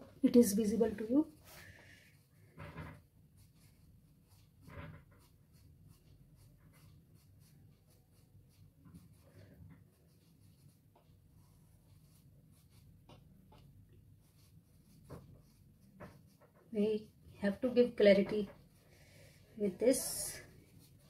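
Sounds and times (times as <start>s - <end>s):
pencil scratching on paper: 0.4s - 21.0s.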